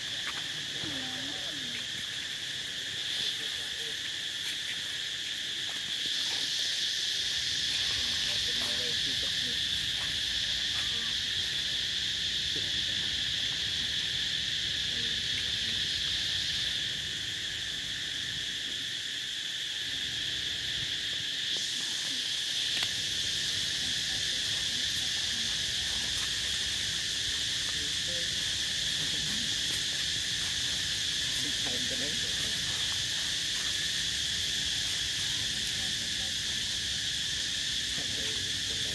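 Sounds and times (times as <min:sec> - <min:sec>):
insects buzzing chorus: 0:00.0 - 0:38.9.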